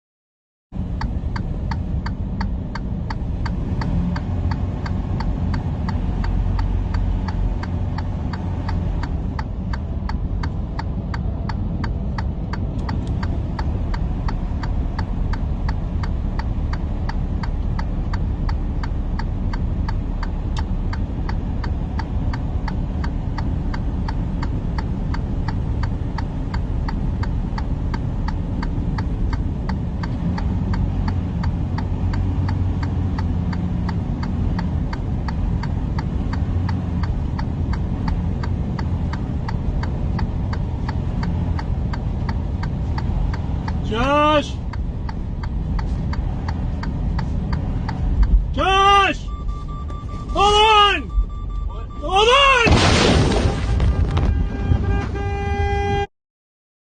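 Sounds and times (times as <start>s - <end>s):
vehicle rumbling on the move: 0.7s - 56.1s
regular ticking: 0.8s - 52.3s.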